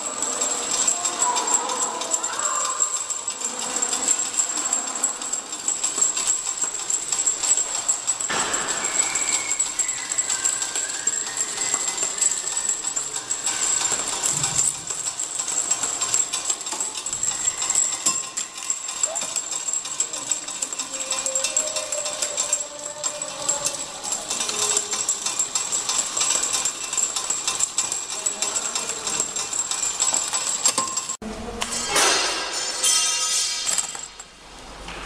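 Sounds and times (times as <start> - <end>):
high-pitched machine whine: 0.0 - 31.2
vials clattering on conveyor: 0.0 - 34.4.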